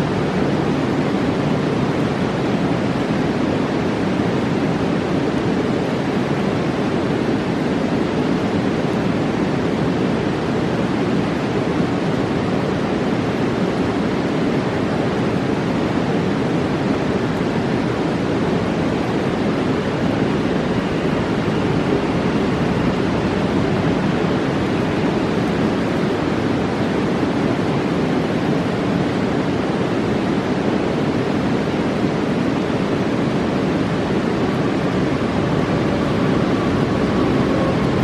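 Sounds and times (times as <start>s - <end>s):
fast-flowing river rushing: 0.0s - 38.0s.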